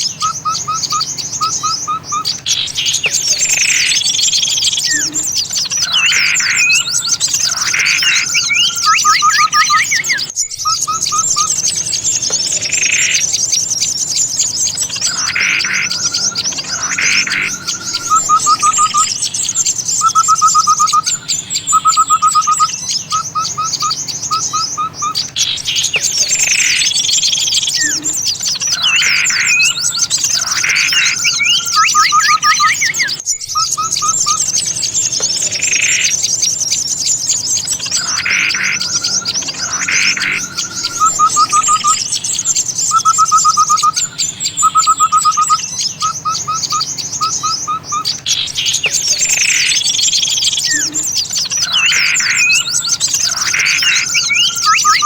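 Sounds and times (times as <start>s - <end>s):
loud bird chirping calls: 0.0s - 55.0s
short fast bird trills: 0.0s - 55.0s
small birds twittering: 0.0s - 55.0s.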